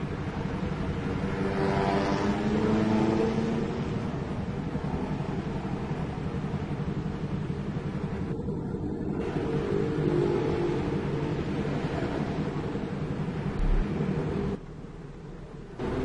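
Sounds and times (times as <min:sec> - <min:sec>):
road traffic engines rumbling: 0:00.0 - 0:16.0.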